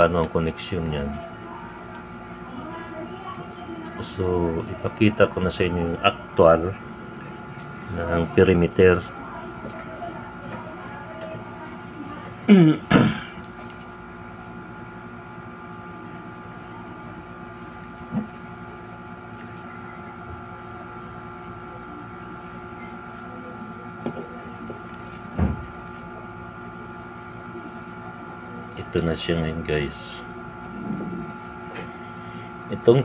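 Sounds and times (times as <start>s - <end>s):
steady mechanical hum: 0.0s - 33.0s.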